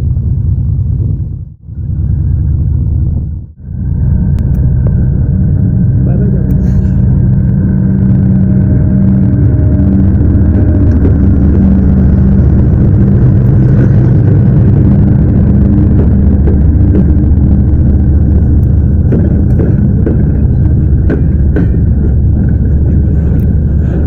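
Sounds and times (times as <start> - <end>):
diesel locomotive engine humming: 0.0 - 24.0.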